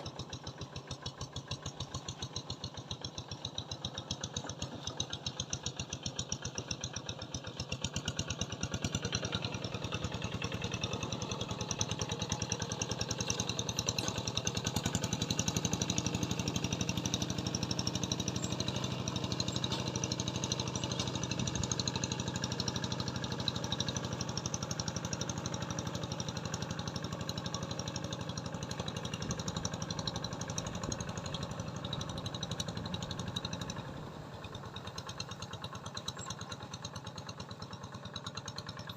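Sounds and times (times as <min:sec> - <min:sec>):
small engine chugging: 0:00.0 - 0:38.9.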